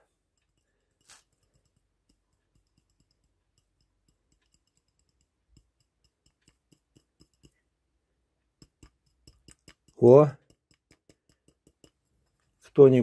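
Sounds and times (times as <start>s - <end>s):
powder clicking in a crucible: 0.4s - 7.7s, 8.5s - 12.8s.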